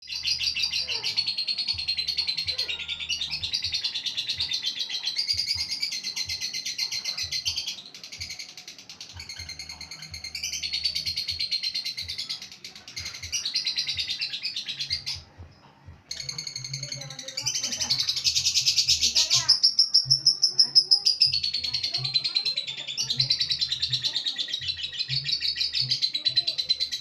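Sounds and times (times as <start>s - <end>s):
songbirds chirping chorus: 0.0s - 27.0s.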